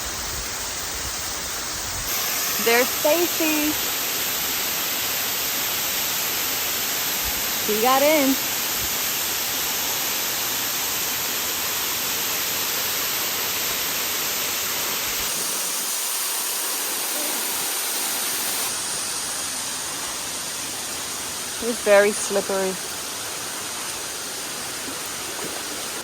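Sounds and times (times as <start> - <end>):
waterfall pouring into a pool: 0.0 - 26.0.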